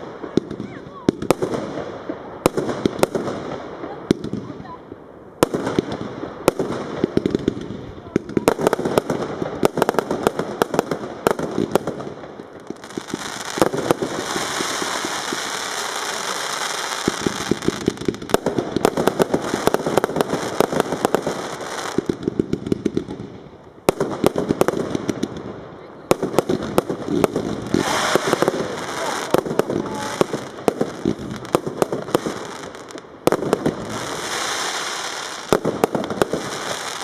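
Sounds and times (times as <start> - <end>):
firework hissing crackle: 0.0 - 37.0
firework shots and bursts: 0.0 - 37.0.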